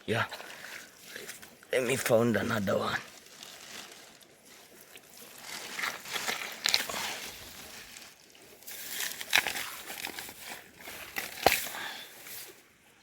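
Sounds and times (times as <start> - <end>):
soil and dry leaves crunching: 0.1 - 13.0.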